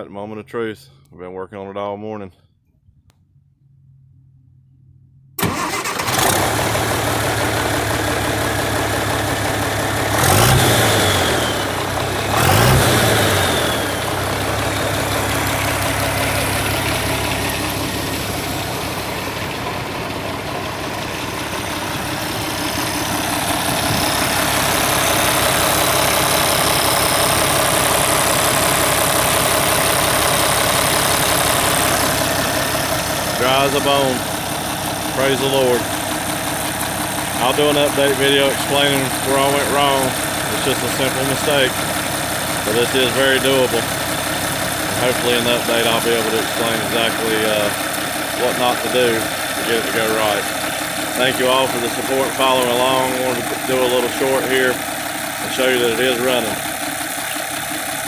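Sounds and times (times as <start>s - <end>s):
tractor engine idling: 3.3s - 58.0s
diesel tractor engine starting: 5.3s - 58.0s
tractor engine revving: 5.4s - 58.0s.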